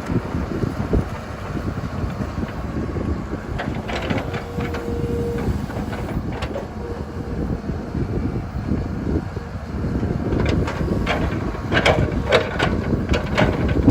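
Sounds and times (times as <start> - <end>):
engine rumbling: 0.0 - 13.9.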